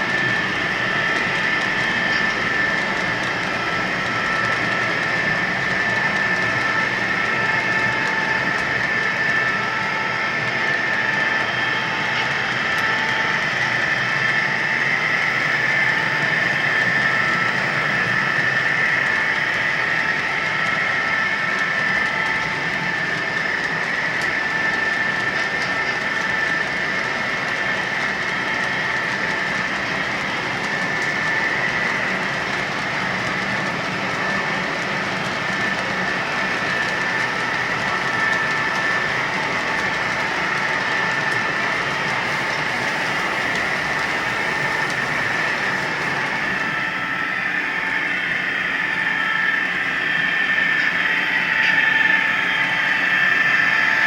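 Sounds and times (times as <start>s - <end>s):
model train running: 0.0s - 54.0s.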